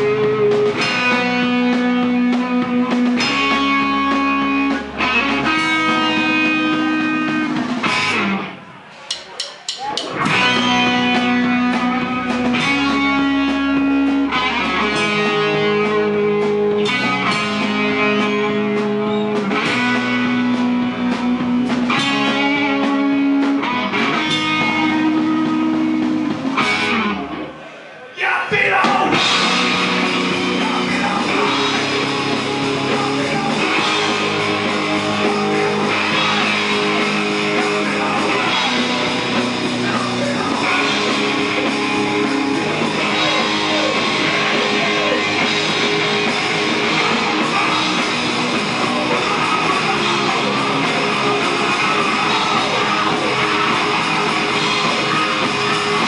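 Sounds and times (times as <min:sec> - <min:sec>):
electric guitars: 0:00.0 - 0:09.1, 0:09.8 - 0:56.0
bass guitar: 0:00.0 - 0:27.9, 0:28.5 - 0:56.0
drums: 0:00.0 - 0:56.0.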